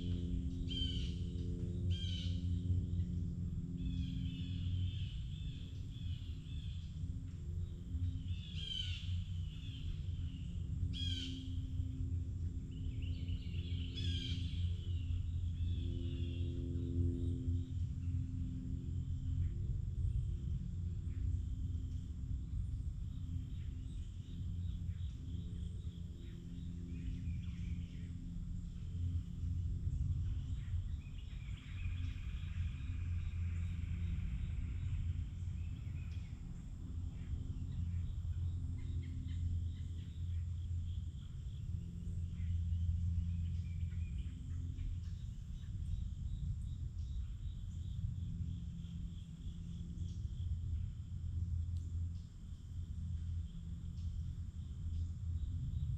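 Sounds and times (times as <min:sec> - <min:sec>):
buzzing insect chorus: 0:00.0 - 0:55.9
low rumble: 0:00.0 - 0:55.9
insect calls: 0:00.2 - 0:03.1, 0:03.8 - 0:55.9.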